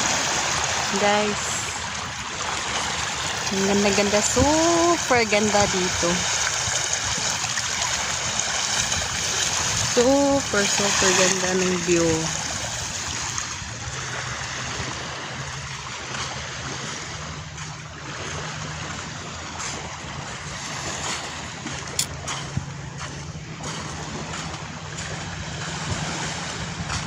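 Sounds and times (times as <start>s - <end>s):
surf: 0.0s - 27.0s
wind: 0.0s - 27.0s.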